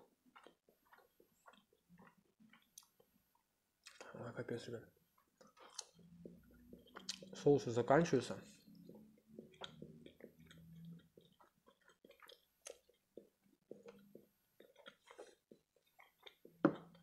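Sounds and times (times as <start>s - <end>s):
wet chewing with mouth smacks: 0.0s - 4.1s, 5.2s - 7.4s, 8.6s - 17.0s.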